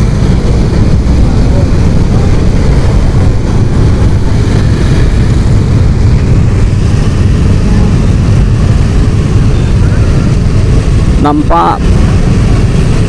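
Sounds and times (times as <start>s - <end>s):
motor scooter engines rumbling: 0.0s - 13.0s.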